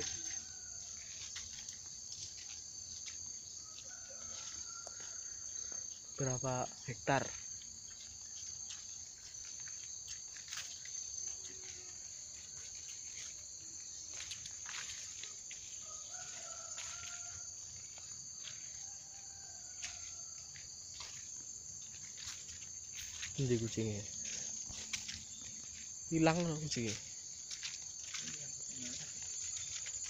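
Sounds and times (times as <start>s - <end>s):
footsteps on overgrown path: 0.0s - 30.0s
insects shrilling: 0.0s - 30.0s.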